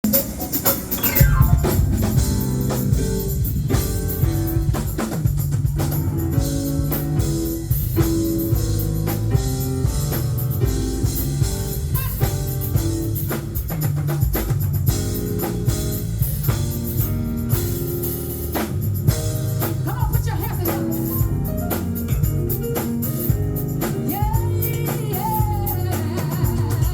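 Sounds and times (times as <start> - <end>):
drum kit steady beat: 0.0 - 26.9
gospel band playing: 0.0 - 26.9.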